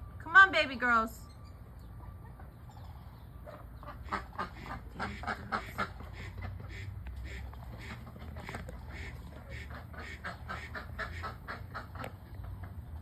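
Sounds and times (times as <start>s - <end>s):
ducks quacking: 2.0s - 12.6s.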